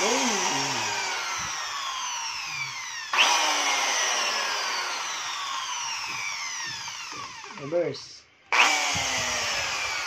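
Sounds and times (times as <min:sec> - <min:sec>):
electric drill motor whining: 0:00.0 - 0:07.9, 0:08.5 - 0:10.0.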